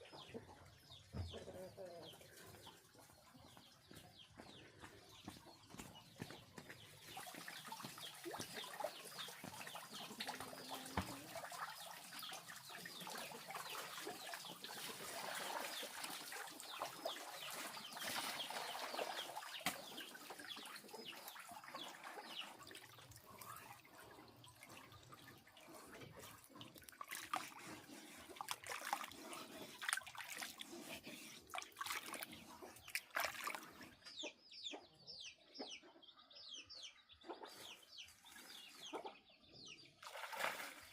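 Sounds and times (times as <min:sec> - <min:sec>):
chickens clucking: 0:00.0 - 0:28.6, 0:30.6 - 0:39.9.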